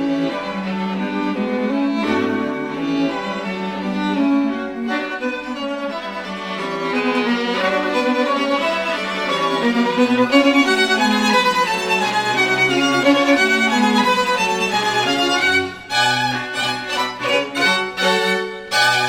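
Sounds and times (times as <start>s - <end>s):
string quartet playing: 0.0s - 19.0s.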